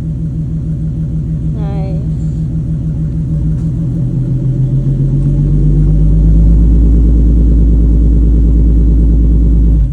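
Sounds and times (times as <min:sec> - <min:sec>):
car engine running: 0:00.0 - 0:09.9.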